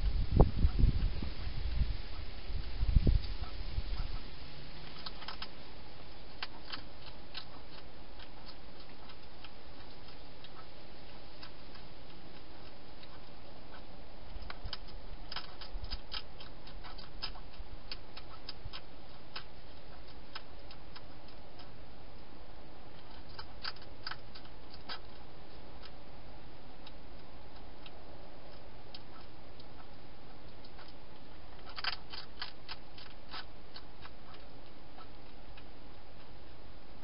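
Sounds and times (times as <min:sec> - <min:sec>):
hedgehog chewing dry food: 0:03.3 - 0:37.0.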